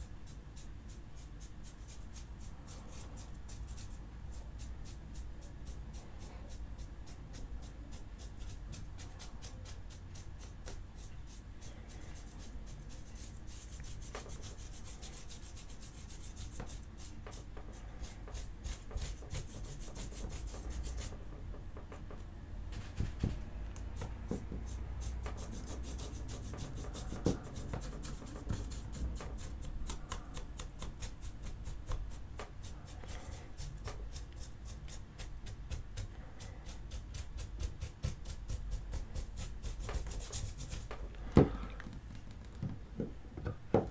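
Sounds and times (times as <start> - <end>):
paintbrush bristles scratching: 0.0 - 21.5, 22.7 - 41.1.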